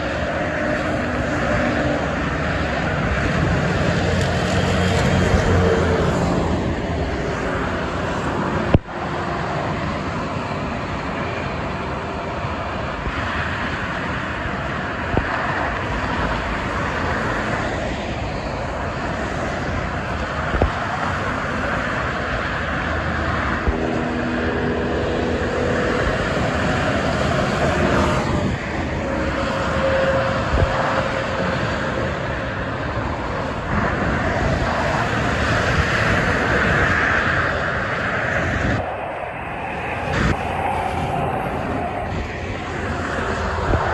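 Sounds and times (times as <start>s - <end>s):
dense expressway traffic: 0.0s - 43.9s.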